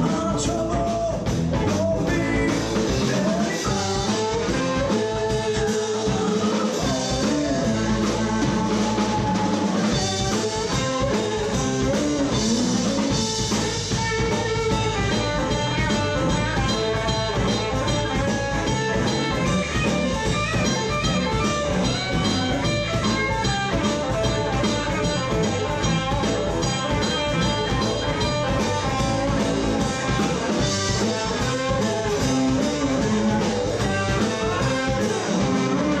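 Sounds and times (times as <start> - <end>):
live blues rock band: 0.0 - 36.0.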